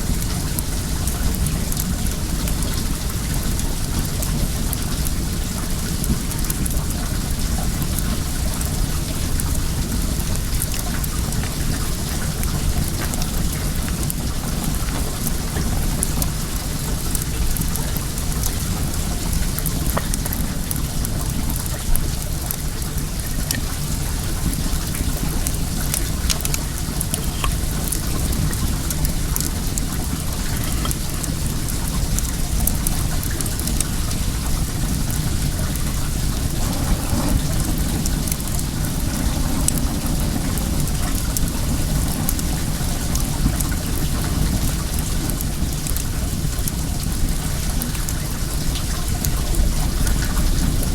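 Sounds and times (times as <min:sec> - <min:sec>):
bonfire crackling and popping: 0:00.0 - 0:50.9
flowing water rushing: 0:00.3 - 0:50.9.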